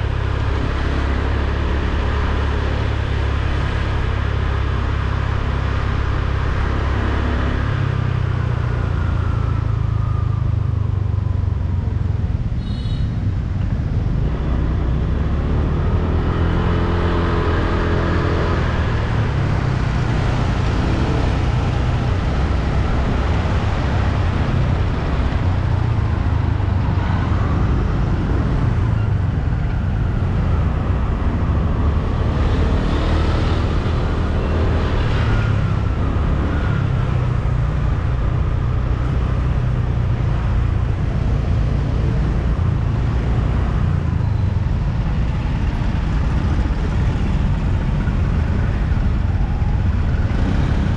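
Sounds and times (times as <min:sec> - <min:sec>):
traffic: 0:00.0 - 0:50.9.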